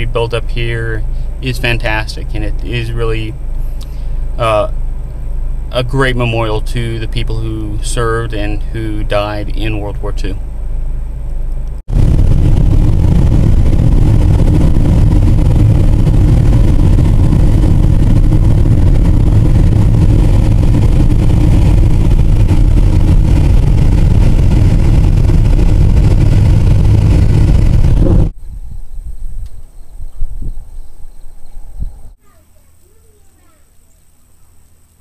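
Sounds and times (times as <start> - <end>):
car road and wind rumble: 0.0 - 32.2.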